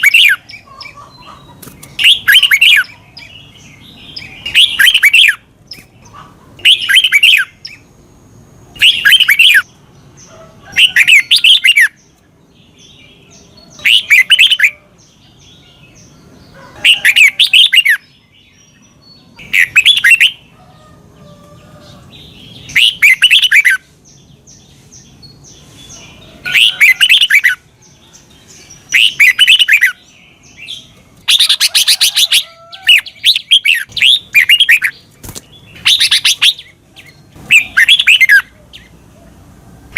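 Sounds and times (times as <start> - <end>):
bird singing warbling phrases: 0.0 - 39.9.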